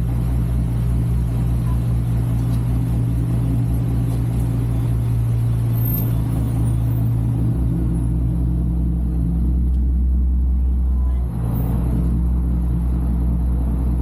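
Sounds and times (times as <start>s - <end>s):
car engine droning while driving: 0.0s - 14.0s.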